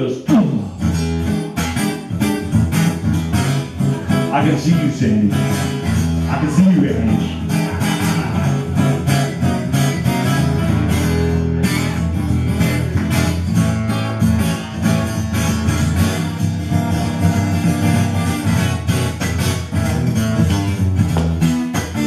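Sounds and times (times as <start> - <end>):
acoustic guitar strummed: 0.3 - 22.0.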